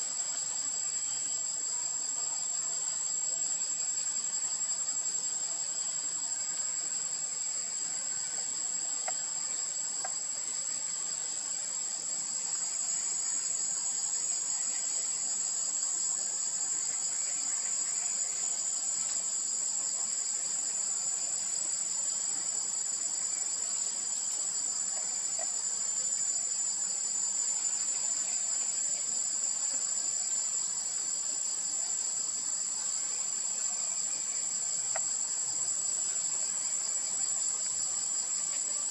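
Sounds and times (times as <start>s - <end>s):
low pulsing insect buzz: 0.0s - 38.9s
shrill insect trill: 0.0s - 38.9s.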